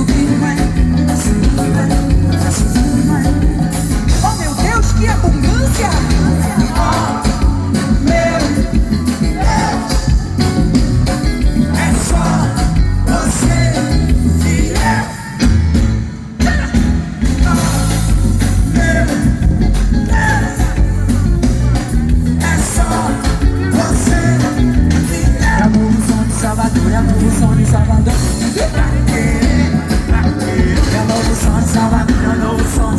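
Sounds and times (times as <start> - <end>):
person singing: 0.0 - 15.6, 16.4 - 32.9
live band music: 0.0 - 32.9.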